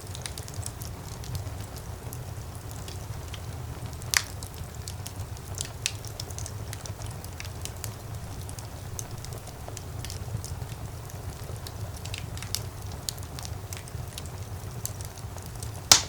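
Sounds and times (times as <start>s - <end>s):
fire rumbling and crackling: 0.0s - 16.0s.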